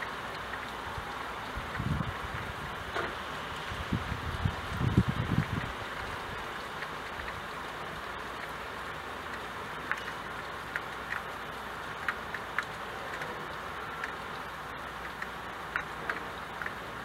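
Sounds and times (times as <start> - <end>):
rain hissing: 0.0 - 17.0
raindrop taps: 0.0 - 17.0.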